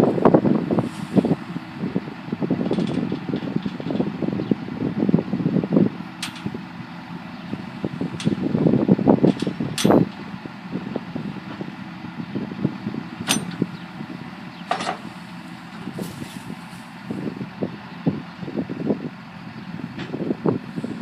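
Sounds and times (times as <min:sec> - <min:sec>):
tractors rumbling: 0:00.0 - 0:21.0.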